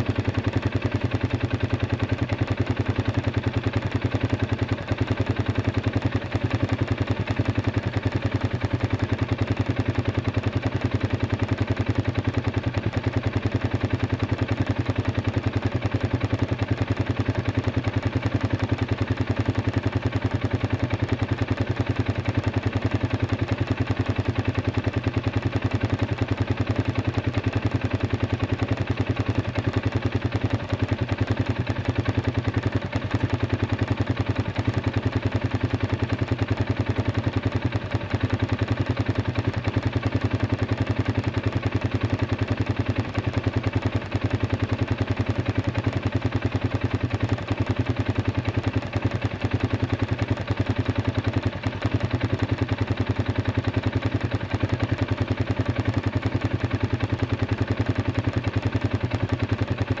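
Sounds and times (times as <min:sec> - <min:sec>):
atv engine idling: 0:00.0 - 1:00.0.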